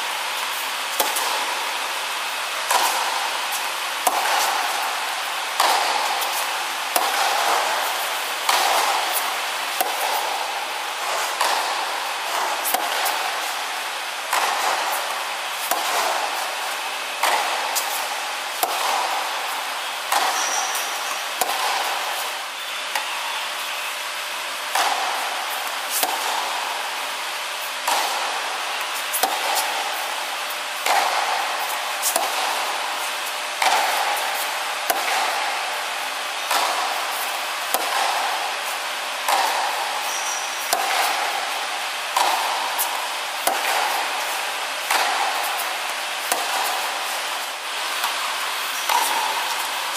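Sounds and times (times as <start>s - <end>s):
tennis ball bouncing: 0.4s - 1.5s, 2.7s - 5.0s, 5.6s - 13.5s, 14.3s - 22.3s, 24.7s - 26.6s, 27.8s - 28.3s, 28.9s - 30.0s, 30.8s - 32.8s, 33.6s - 38.7s, 39.3s - 49.9s
rackets striking tennis ball: 0.4s - 49.9s.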